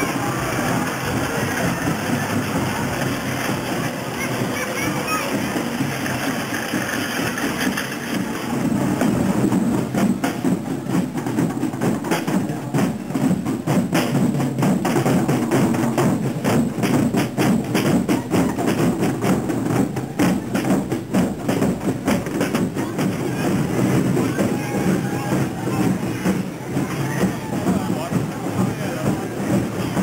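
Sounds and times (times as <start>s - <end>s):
snare drums marching band: 0.0s - 30.0s.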